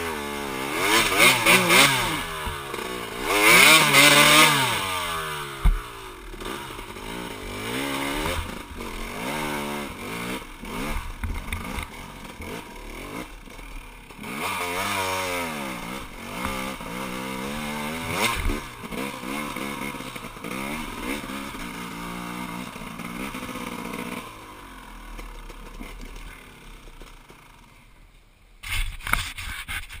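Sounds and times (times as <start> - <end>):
dirt bike engine revving: 0.0 - 27.8.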